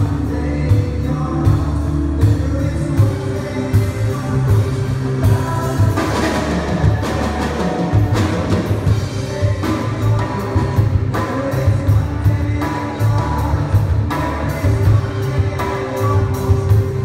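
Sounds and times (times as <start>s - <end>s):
bass line: 0.0s - 17.0s
drum kit: 0.0s - 17.0s.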